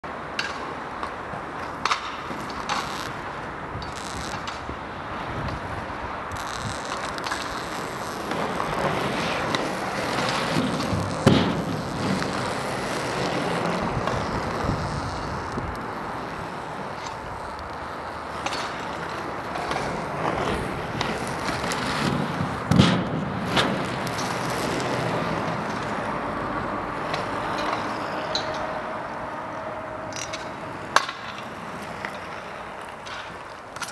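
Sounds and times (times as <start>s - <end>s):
skate wheels rolling on asphalt: 0.0s - 33.9s.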